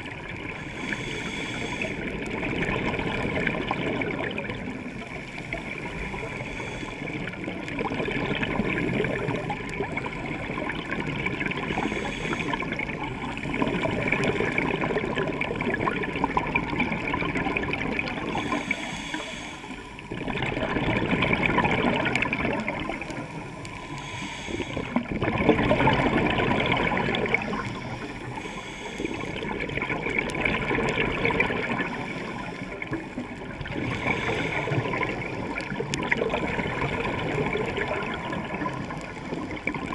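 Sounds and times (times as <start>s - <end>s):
bubbles gurgling: 0.0s - 39.9s
underwater regulator breathing: 0.3s - 2.4s, 3.8s - 7.8s, 8.4s - 16.4s, 18.0s - 20.2s, 21.6s - 26.0s, 26.6s - 39.9s.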